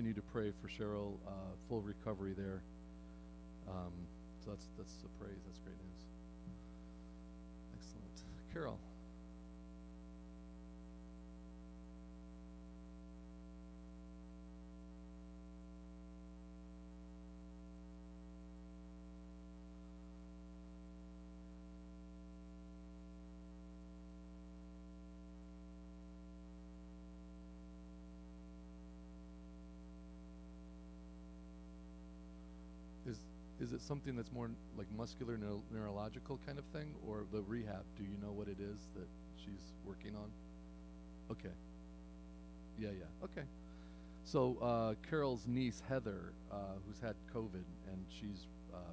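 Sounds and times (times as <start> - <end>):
faint mains hum: 0.0 - 48.9.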